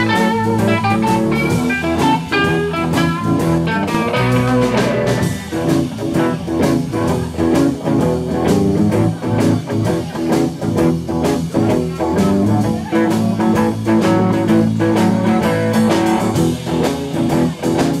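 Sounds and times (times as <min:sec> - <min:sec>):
blues band playing: 0:00.0 - 0:18.0
drum kit beat: 0:00.0 - 0:18.0
electric guitars: 0:00.0 - 0:18.0.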